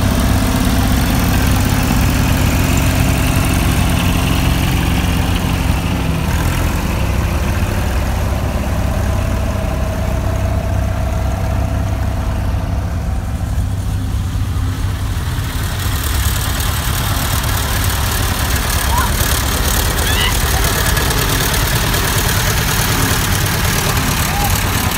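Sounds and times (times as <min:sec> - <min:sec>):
tractor engines running slowly: 0:00.0 - 0:24.9.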